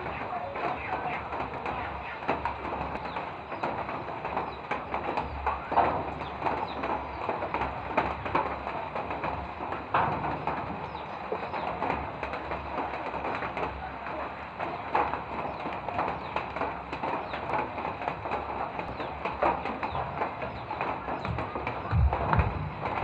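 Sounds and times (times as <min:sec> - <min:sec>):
light rain patter: 0:00.0 - 0:23.0.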